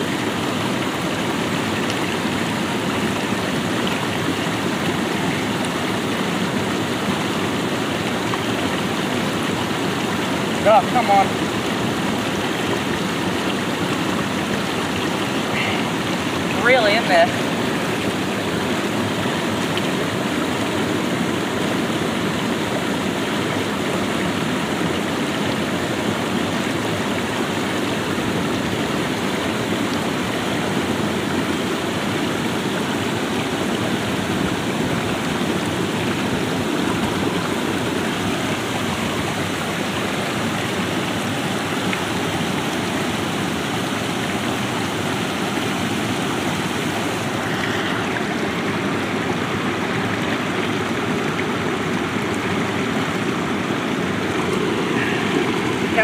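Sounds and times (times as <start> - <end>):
river water running over rocks: 0.0 - 56.0.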